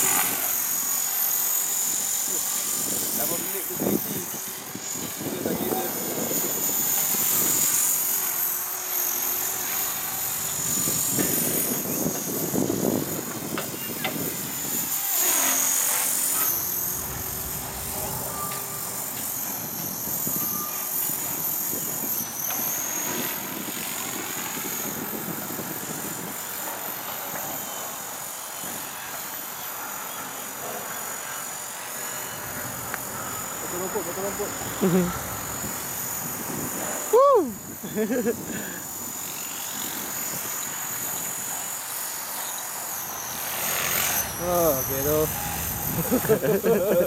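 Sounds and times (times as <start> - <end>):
rotor blades rushing: 0.0 - 28.6, 30.9 - 47.0
model helicopter motor whine: 0.0 - 47.0.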